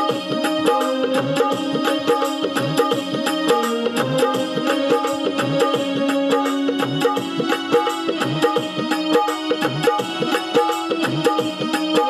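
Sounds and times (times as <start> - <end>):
electronic keyboard melody: 0.0 - 12.0
keyboard rhythm accompaniment: 0.0 - 12.0.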